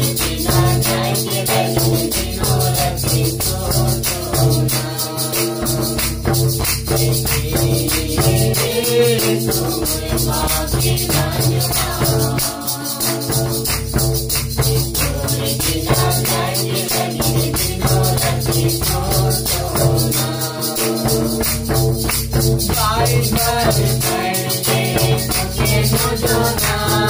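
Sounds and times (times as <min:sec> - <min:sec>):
barrel drum: 0:00.0 - 0:27.0
group singing a hymn: 0:00.0 - 0:27.0
hand claps: 0:00.0 - 0:27.0.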